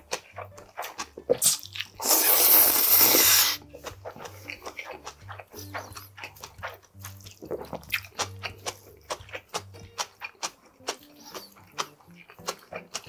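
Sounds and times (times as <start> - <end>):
person chewing noodles: 0.0 - 13.0
wet mouth clicks: 0.0 - 13.0.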